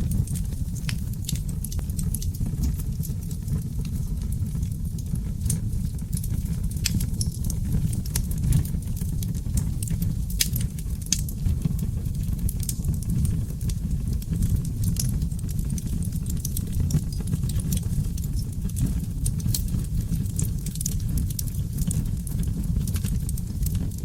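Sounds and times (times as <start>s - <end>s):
fire flames rumbling: 0.0s - 24.0s
logs crackling and popping: 0.0s - 24.0s.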